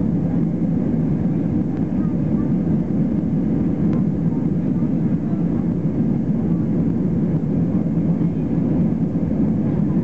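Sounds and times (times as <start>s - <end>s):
airflow over aircraft fuselage: 0.0s - 10.0s
jet engines droning: 0.0s - 10.0s.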